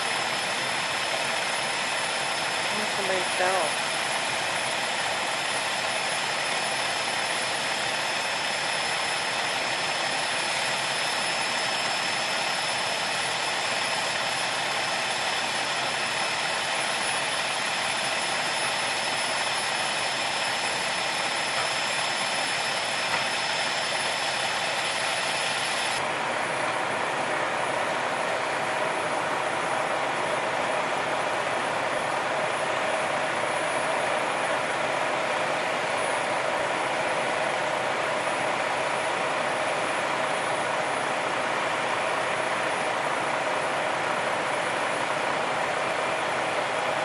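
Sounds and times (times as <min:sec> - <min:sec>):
fire apparatus mechanical roar: 0:00.0 - 0:47.0
thin high whine: 0:00.0 - 0:47.0.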